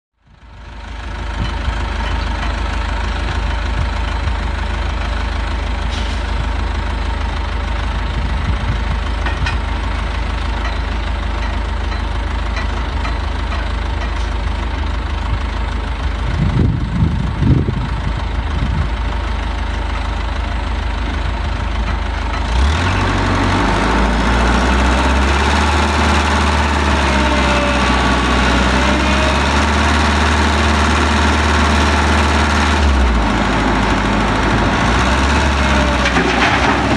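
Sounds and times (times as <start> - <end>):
excavator engine running: 0.2 - 36.9.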